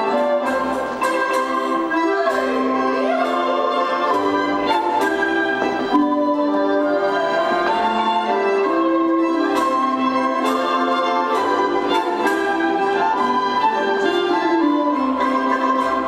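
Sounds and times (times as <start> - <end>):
instrumental folk dance tune: 0.0 - 16.0.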